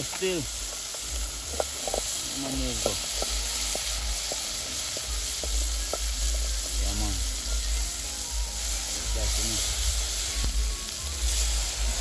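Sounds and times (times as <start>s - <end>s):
seasonings sizzling in hot oil: 0.0s - 12.0s
small crackles: 0.0s - 12.0s.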